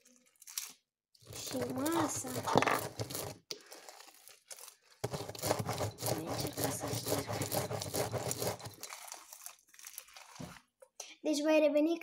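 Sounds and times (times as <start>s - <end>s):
slime squelching and crackling: 0.0s - 10.8s.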